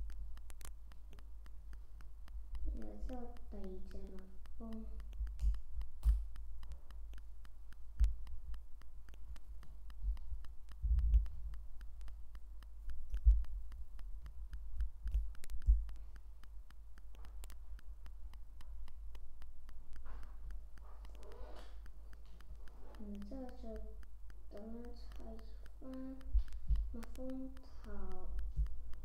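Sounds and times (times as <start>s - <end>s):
soft low thumps: 0.0s - 29.0s
steady low hum: 0.0s - 29.0s.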